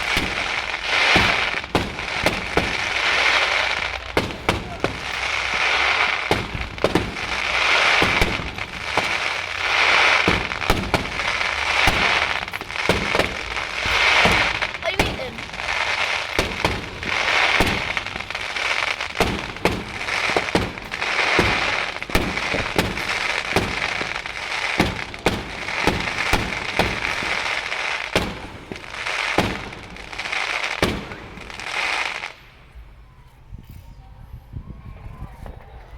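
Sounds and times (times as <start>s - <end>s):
fireworks hissing: 0.0s - 32.6s
fireworks bangs: 0.0s - 33.0s.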